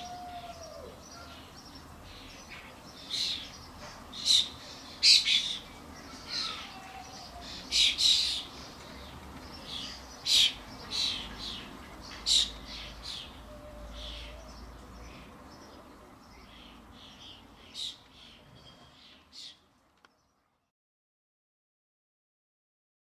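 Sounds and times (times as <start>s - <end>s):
starlings scratchy calls: 1.0s - 19.6s.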